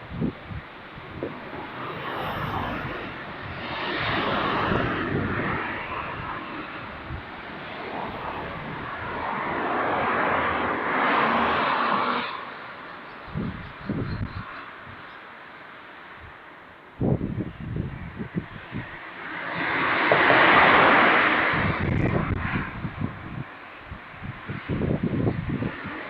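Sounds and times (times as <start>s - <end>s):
vehicles driving past: 0.0s - 26.0s.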